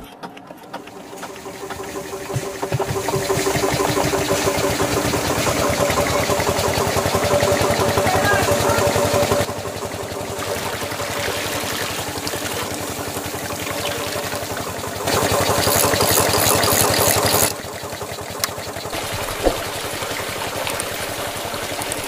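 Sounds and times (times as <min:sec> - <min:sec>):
electric motor humming: 0:00.7 - 0:22.0
water pouring into a tank: 0:00.8 - 0:22.0.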